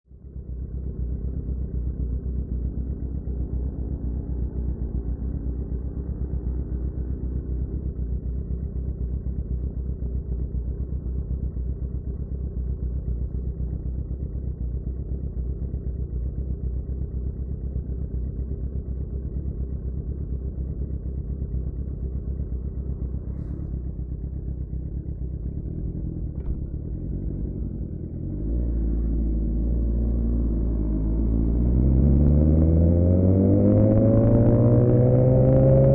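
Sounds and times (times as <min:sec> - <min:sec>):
motorcycle engine running: 0:00.1 - 0:35.9.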